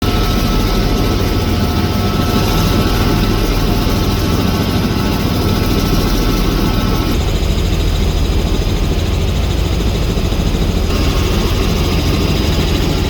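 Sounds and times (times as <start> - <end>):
helicopter rotor drone: 0.0 - 13.0
thin steady whine: 0.0 - 13.0.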